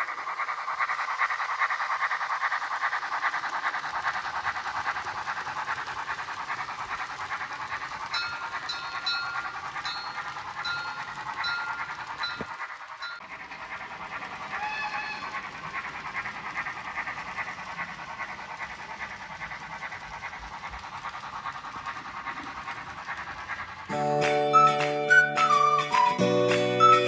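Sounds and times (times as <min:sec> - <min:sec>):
steam locomotive chuffing: 0:00.0 - 0:27.0.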